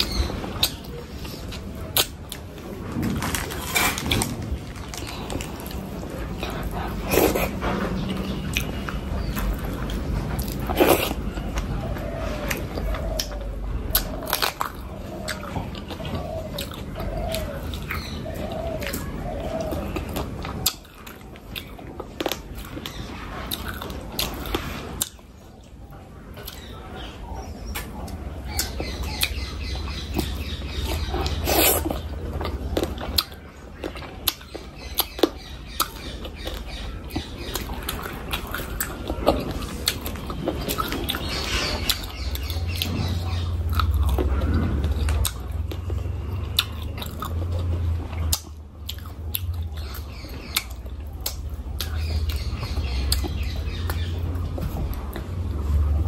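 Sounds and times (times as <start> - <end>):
person chewing food: 0.0 - 26.7, 27.7 - 56.0.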